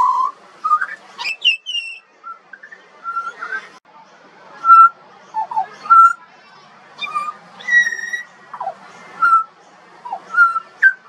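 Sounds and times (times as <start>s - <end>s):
bird whistling song: 0.0s - 3.8s, 4.6s - 6.2s, 7.0s - 11.0s.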